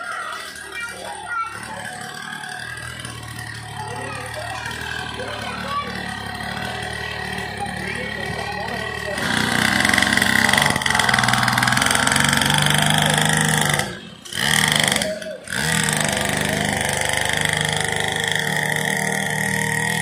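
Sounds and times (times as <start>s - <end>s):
small petrol engine running: 0.0s - 20.0s.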